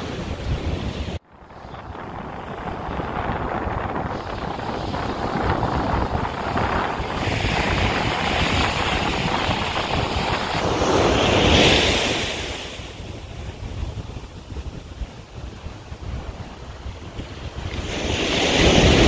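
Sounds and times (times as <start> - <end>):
ocean surf on beach: 0.0 - 19.0
wind buffeting microphone: 0.0 - 19.0.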